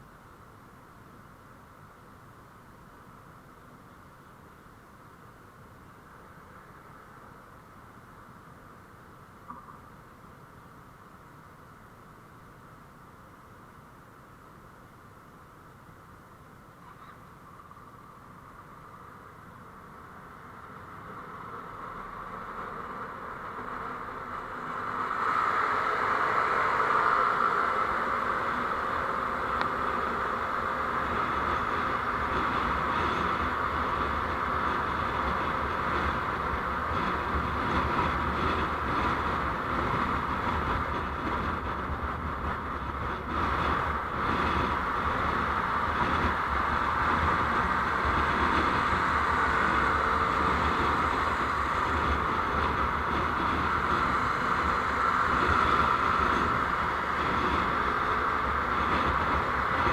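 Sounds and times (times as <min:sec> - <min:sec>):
vehicle running noise: 0:00.0 - 0:59.9.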